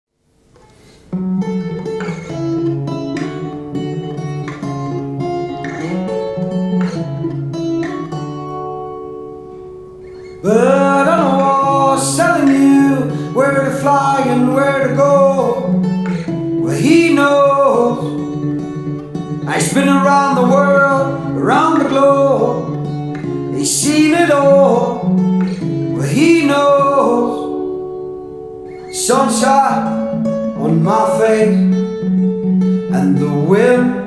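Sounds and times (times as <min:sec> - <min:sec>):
acoustic guitar picking: 0:00.4 - 0:34.0.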